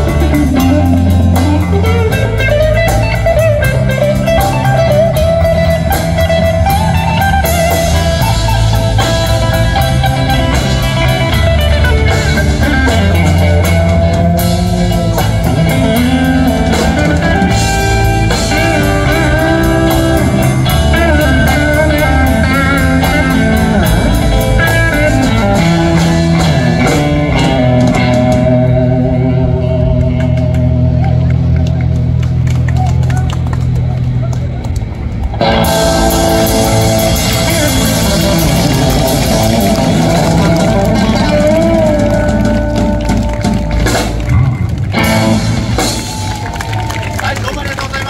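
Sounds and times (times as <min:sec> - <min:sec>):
drum kit: 0:00.0 - 0:33.7, 0:34.9 - 0:48.0
electric guitar lead melody: 0:00.0 - 0:47.5
electric bass: 0:00.0 - 0:48.0.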